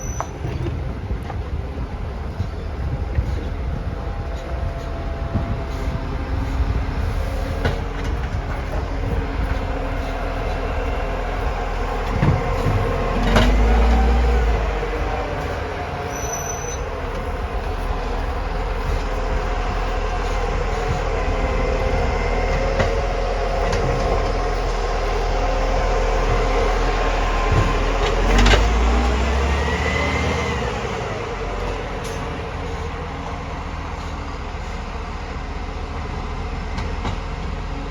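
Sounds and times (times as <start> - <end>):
garbage truck engine rumbling: 0.0 - 37.9.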